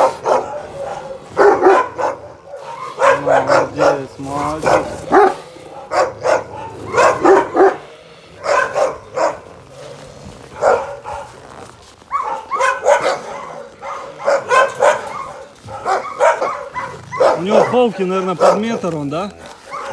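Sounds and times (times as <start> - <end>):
big dog barking: 0.0 - 19.9.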